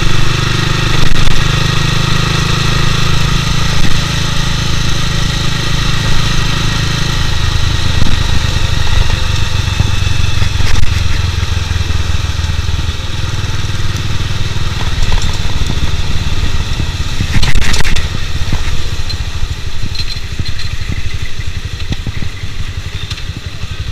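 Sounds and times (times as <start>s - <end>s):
motorcycle engine running at low speed: 0.0s - 23.9s
rush of noise: 0.0s - 23.9s.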